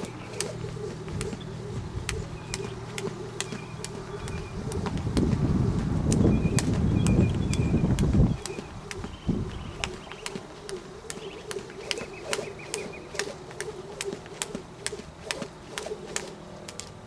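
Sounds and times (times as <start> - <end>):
birds calling: 0.0 - 16.4
jump rope slapping dirt: 0.0 - 17.0.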